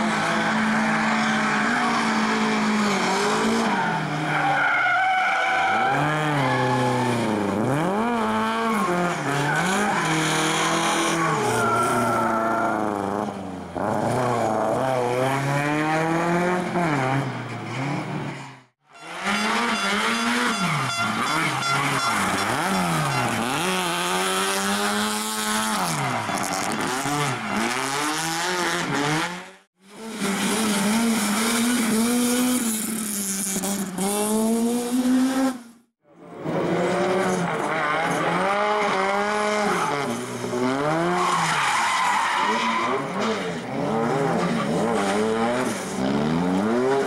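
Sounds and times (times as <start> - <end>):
rally car engines revving: 0.0 - 47.0.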